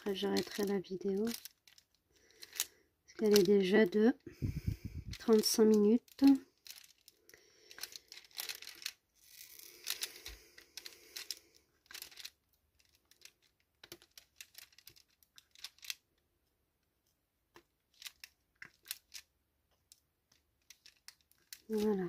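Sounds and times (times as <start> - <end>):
soft rustling and crinkling: 0.0 - 22.0.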